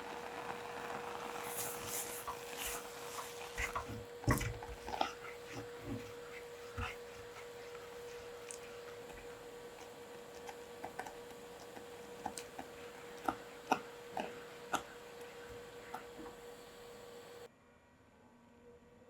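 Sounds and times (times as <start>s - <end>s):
steady low hum: 0.0s - 17.5s.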